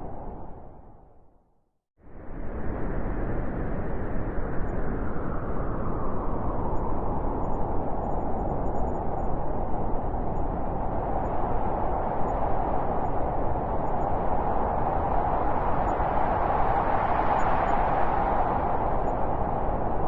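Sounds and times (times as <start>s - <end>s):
blizzard wind blowing hard: 0.0s - 1.2s, 2.0s - 20.0s.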